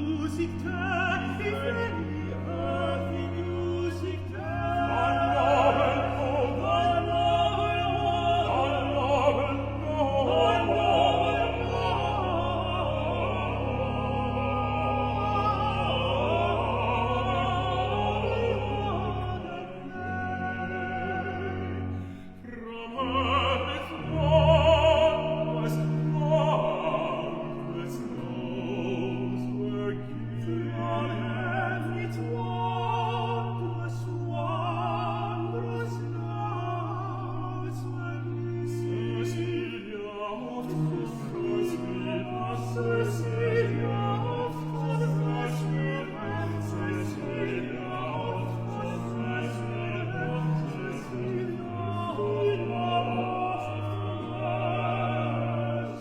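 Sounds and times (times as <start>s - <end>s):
vocal trio singing with vibrato: 0.0s - 56.0s.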